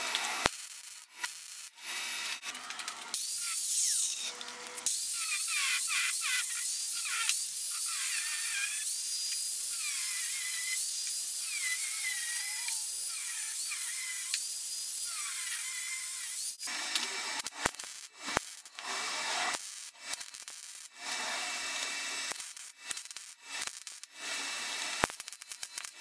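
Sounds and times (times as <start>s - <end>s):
angle grinder grinding steel: 0.0s - 26.0s
welding arc crackling: 0.0s - 26.0s.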